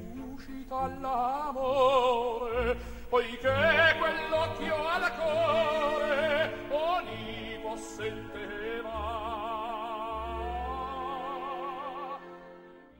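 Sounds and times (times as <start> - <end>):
opera singer with vibrato: 0.0 - 12.9
orchestra: 0.0 - 12.9.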